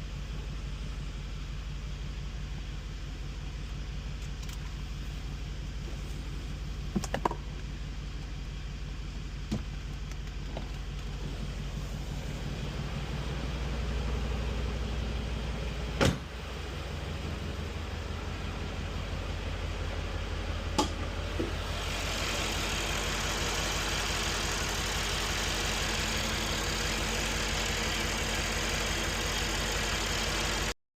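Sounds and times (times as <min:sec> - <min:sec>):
car engine idling: 0:00.0 - 0:30.8.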